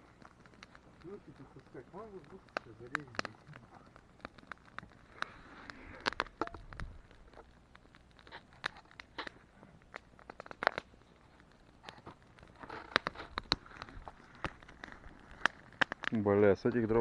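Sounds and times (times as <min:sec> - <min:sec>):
firewood popping and snapping: 0:00.0 - 0:17.0
wood fire crackling: 0:00.0 - 0:17.0.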